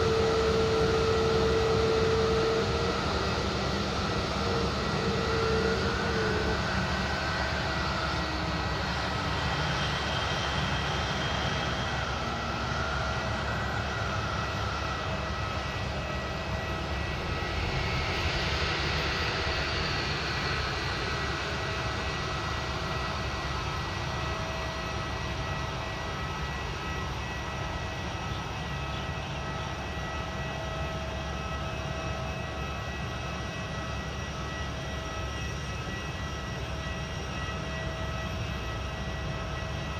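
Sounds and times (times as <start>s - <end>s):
aircraft engines whining: 0.0s - 39.9s.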